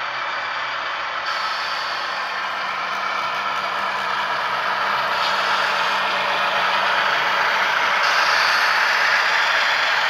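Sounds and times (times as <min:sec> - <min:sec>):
model train diesel engine sound: 0:00.0 - 0:10.0
model train motors and wheels whirring: 0:00.0 - 0:10.0.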